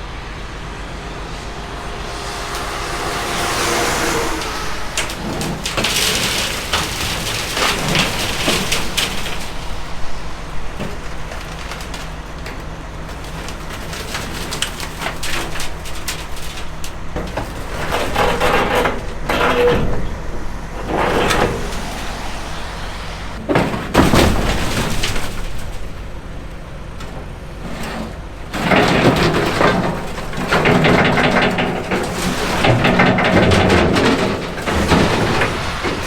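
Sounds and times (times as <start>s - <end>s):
loader diesel engine: 0.0s - 36.0s
bucket scraping and clanking: 0.2s - 36.0s.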